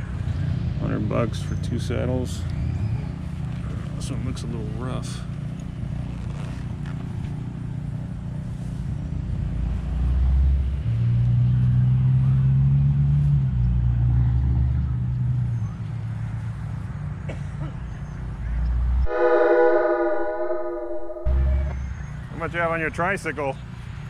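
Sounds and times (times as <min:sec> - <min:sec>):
vehicle engine rumbling: 0:00.0 - 0:22.4.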